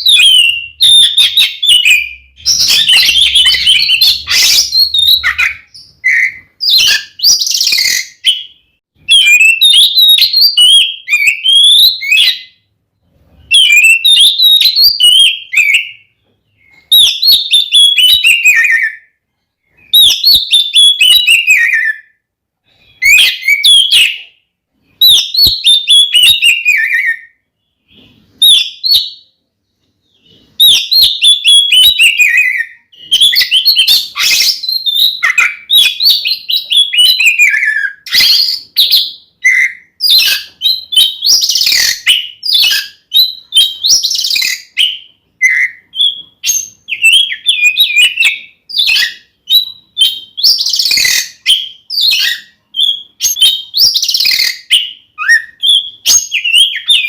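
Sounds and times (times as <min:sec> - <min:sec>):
songbird singing whistled notes: 0:00.0 - 0:12.7, 0:13.3 - 0:57.0.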